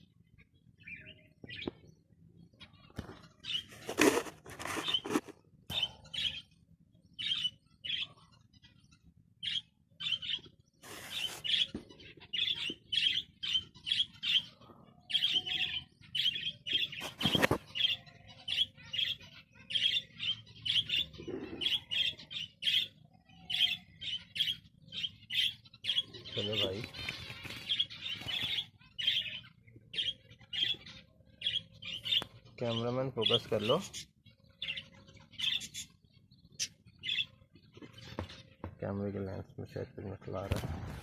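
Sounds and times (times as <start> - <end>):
finches calling: 2.6 - 39.1.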